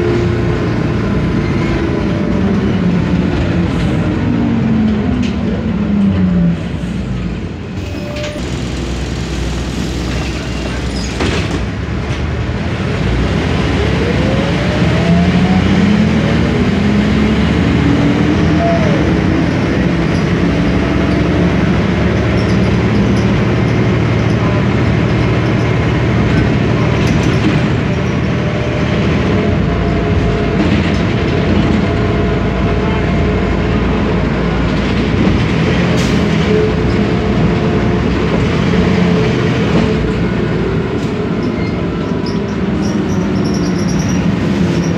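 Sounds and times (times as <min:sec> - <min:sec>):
bus diesel engine accelerating: 0:00.0 - 0:44.9.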